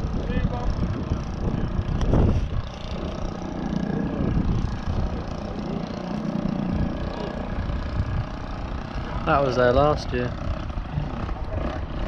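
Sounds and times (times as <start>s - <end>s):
faint model aircraft engine drone: 0.0s - 12.0s
wind buffeting microphone: 0.0s - 12.0s.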